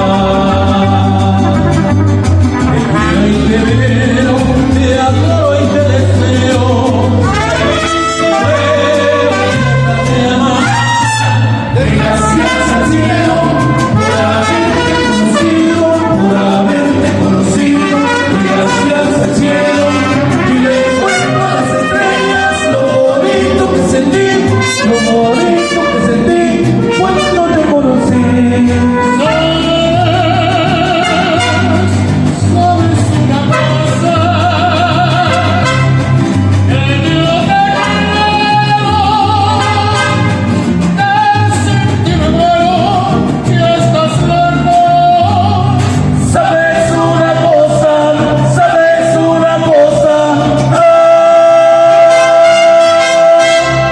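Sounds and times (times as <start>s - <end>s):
mariachi band with singing: 0.0s - 53.9s.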